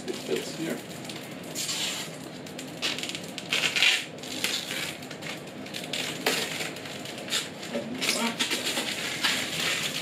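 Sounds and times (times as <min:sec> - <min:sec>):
plastic film crinkling: 0:00.2 - 0:10.0.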